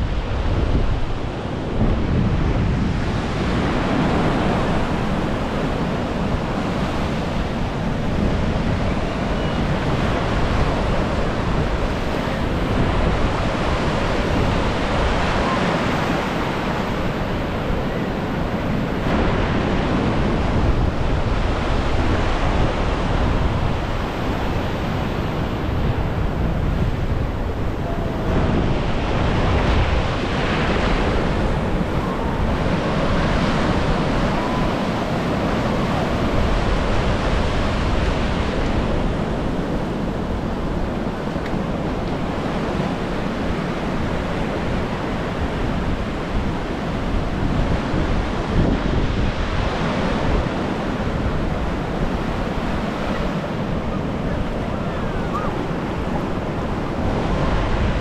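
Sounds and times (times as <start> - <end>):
sea surf washing onto beach: 0.0 - 58.0
wind buffeting microphone: 0.0 - 58.0.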